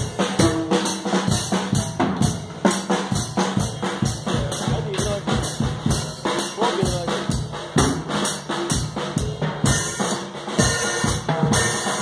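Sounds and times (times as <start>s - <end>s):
drum kit playing fast beat: 0.0s - 12.0s.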